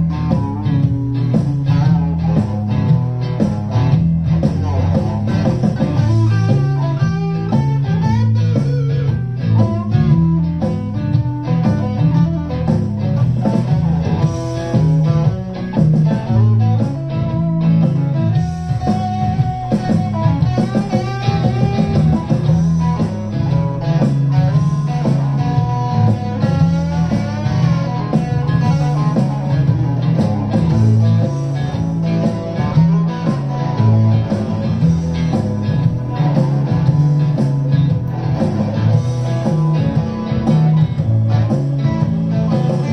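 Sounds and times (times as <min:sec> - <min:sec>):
electric guitar blues-rock: 0:00.0 - 0:42.9.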